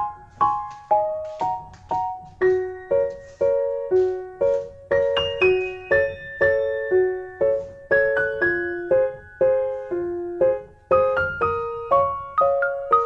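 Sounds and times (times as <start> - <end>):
piano playing soft chords: 0.0 - 13.0.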